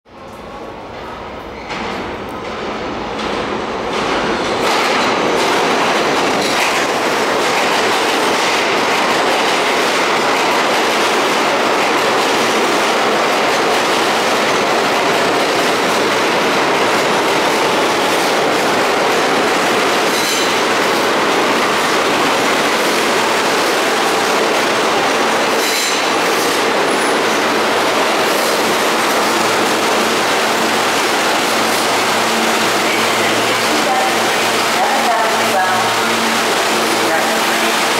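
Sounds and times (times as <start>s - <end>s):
train wheels on rails: 0.1s - 37.9s.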